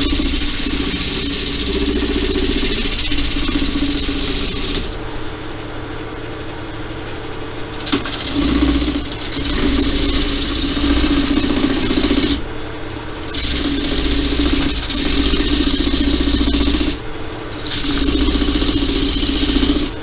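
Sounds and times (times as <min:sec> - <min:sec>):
sanding spinning wood rasping: 0:00.0 - 0:05.0, 0:07.7 - 0:20.0
wood lathe motor whine: 0:00.0 - 0:05.7, 0:07.0 - 0:20.0.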